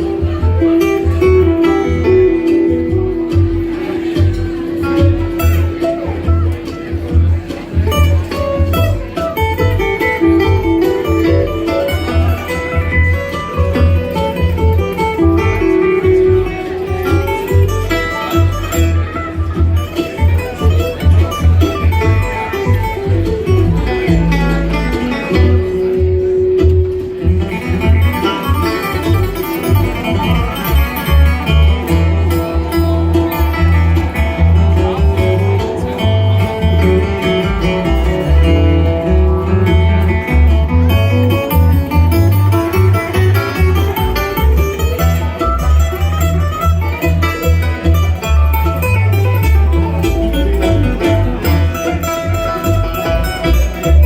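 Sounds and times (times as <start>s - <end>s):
acoustic guitar picking: 0.0s - 54.0s
banjo: 0.0s - 54.0s
bass line: 0.0s - 54.0s.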